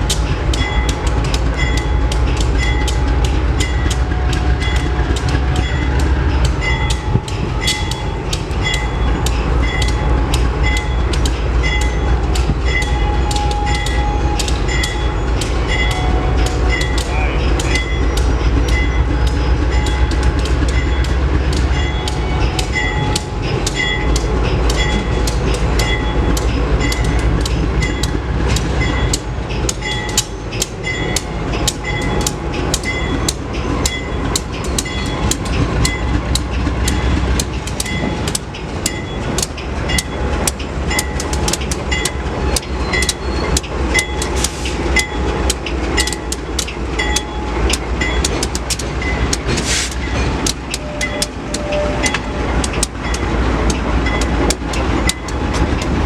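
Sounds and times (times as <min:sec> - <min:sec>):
low train rumble: 0:00.0 - 0:56.0
train wheels clacking: 0:00.0 - 0:56.0.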